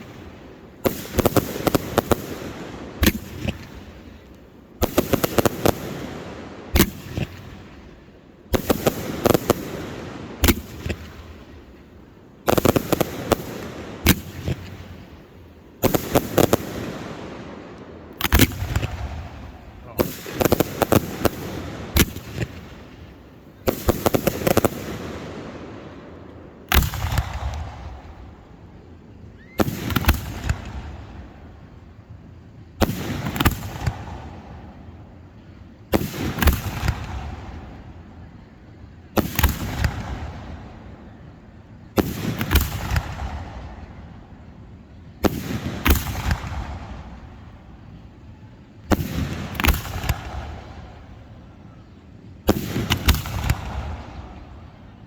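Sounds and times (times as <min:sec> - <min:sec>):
fireworks bursting with echo: 0:00.0 - 0:55.0.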